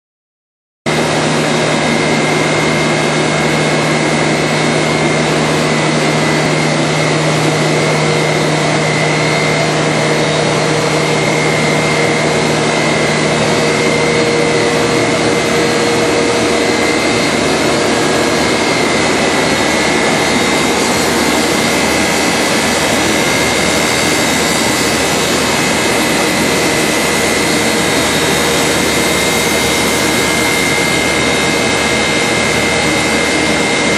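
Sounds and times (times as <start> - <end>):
jointer-planer machine whirring: 0.9 - 33.9.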